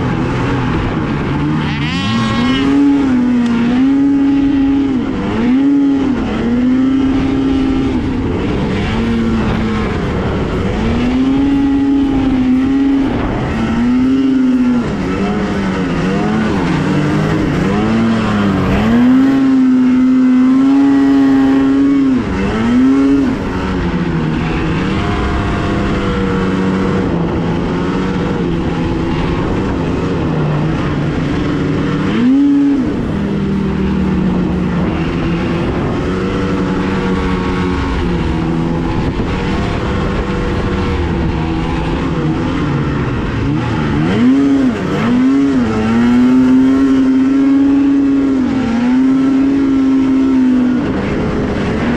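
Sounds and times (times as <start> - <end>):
snowmobile engine revving: 0.0 - 51.9.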